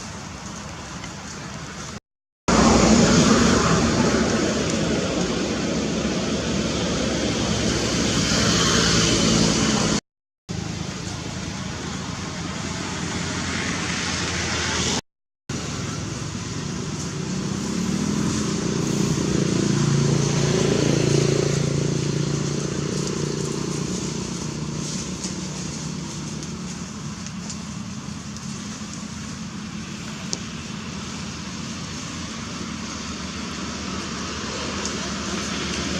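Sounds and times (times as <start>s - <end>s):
traffic rumble: 0.0s - 35.9s
passing vehicle engine: 2.5s - 10.0s, 10.7s - 35.9s.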